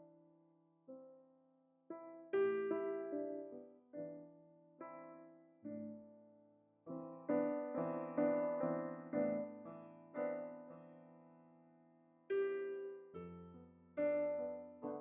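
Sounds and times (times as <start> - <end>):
slow piano chords: 1.9 - 15.0.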